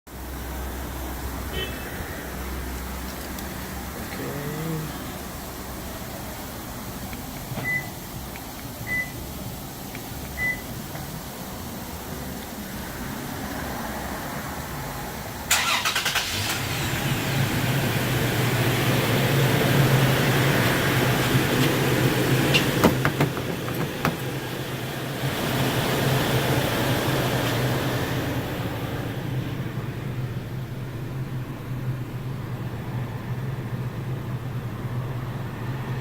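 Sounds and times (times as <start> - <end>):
truck engine cranking and idling: 0.1 - 36.0.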